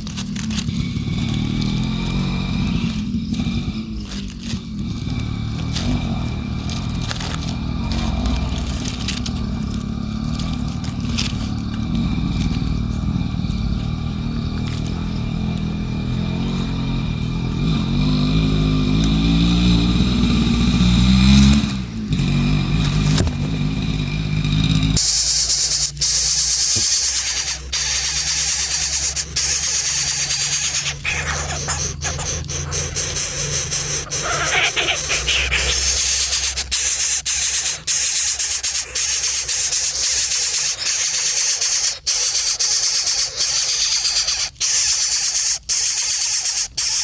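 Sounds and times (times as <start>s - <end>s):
engine running: 0.0s - 45.0s.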